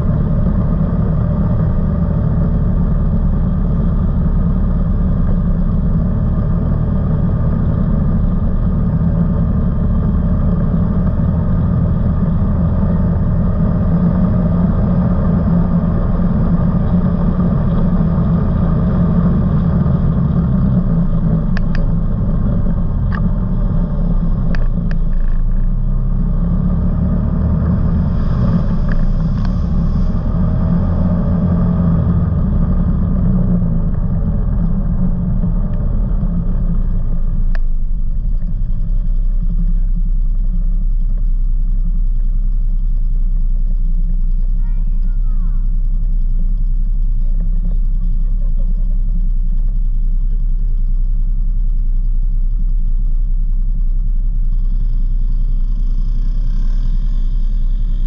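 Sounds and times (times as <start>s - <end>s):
off-road vehicle engine droning: 0.0s - 58.0s.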